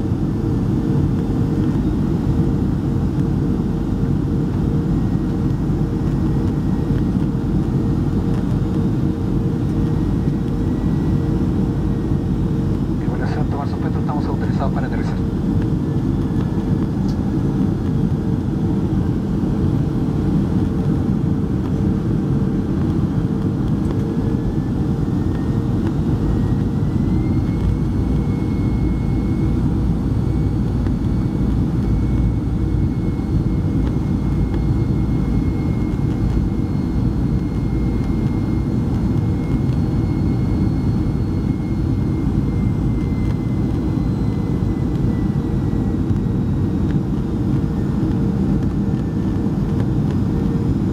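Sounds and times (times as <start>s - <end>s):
high engine whine: 0.0s - 50.9s
jet engine and airflow roar: 0.0s - 50.9s.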